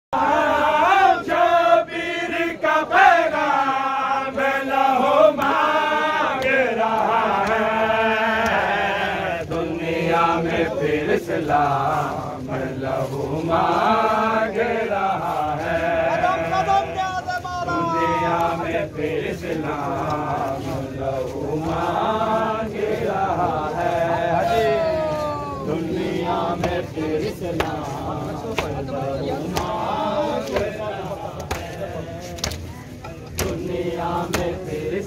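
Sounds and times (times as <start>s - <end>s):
men chanting a lament: 0.2s - 35.0s.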